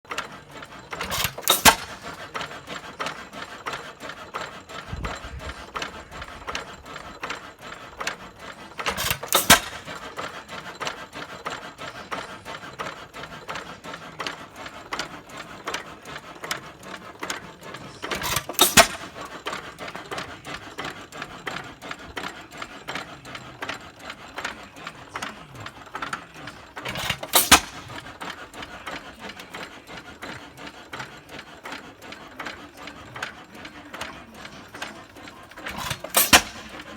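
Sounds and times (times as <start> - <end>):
engine firing bursts: 0.1 - 36.9
valve gear clatter: 0.1 - 36.9.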